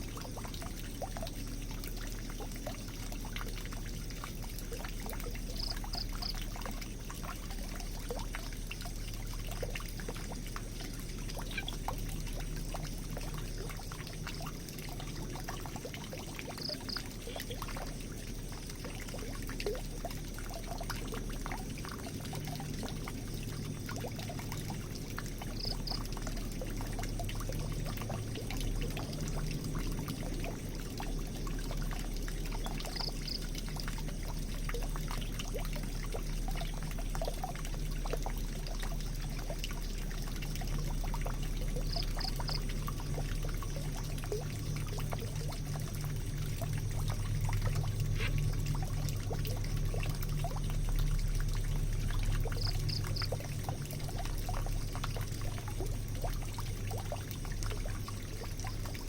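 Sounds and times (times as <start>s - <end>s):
water pouring into a drain: 0.0s - 59.0s.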